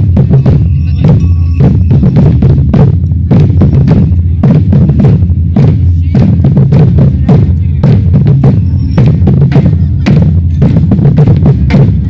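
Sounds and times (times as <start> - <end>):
deep bass drums: 0.0 - 12.0
fast sharp drum strikes: 0.0 - 12.0.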